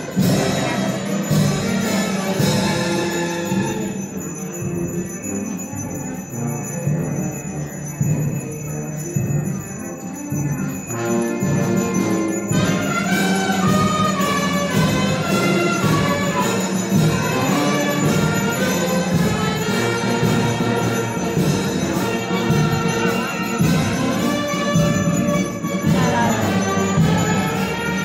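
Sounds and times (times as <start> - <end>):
orchestral music: 0.0 - 28.0.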